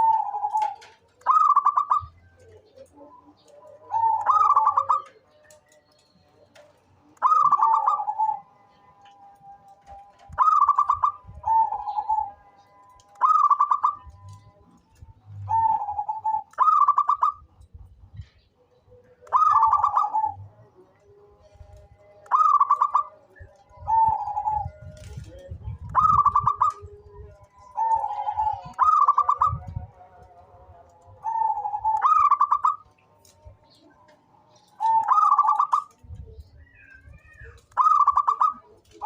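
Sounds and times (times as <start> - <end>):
dove cooing: 0.0 - 8.8, 9.8 - 14.6, 15.3 - 30.2, 31.0 - 39.0.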